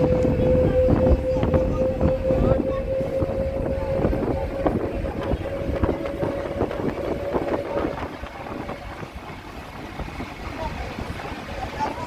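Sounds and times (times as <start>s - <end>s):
road and engine rumble: 0.0s - 12.0s
steady whine: 0.0s - 12.0s.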